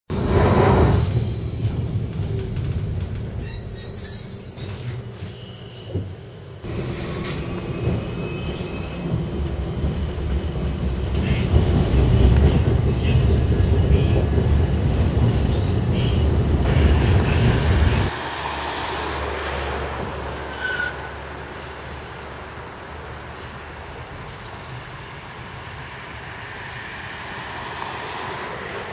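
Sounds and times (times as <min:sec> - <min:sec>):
tram wheel squeal: 0:00.1 - 0:28.9
tram wheels rumbling: 0:00.1 - 0:28.9.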